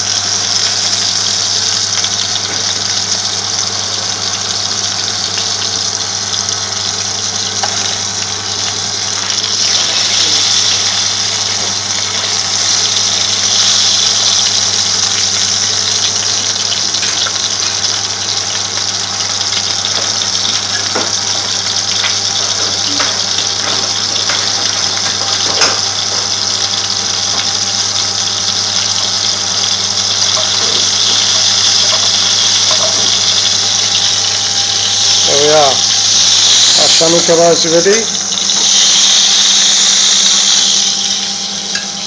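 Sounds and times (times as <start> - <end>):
oil popping and crackling: 0.0 - 42.0
patties sizzling in hot oil: 0.0 - 42.0.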